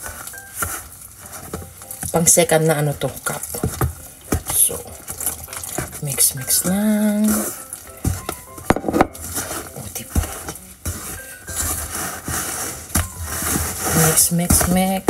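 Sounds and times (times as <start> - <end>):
spatula scraping batter: 0.0 - 15.0.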